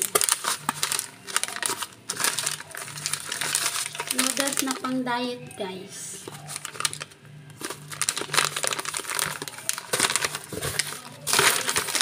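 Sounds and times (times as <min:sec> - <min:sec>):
plastic packets crinkling: 0:00.0 - 0:05.2, 0:06.2 - 0:12.0.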